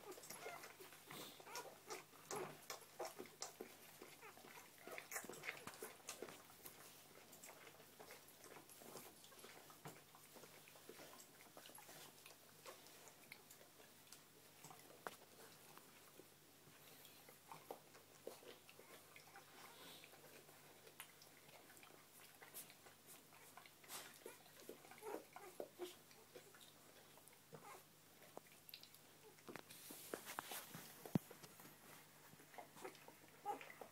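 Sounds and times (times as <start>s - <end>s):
puppies suckling: 0.0s - 33.9s.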